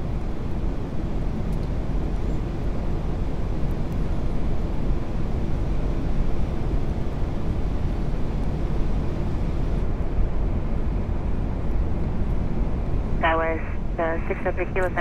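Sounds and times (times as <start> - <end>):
cockpit airflow and engine rumble: 0.0 - 15.0.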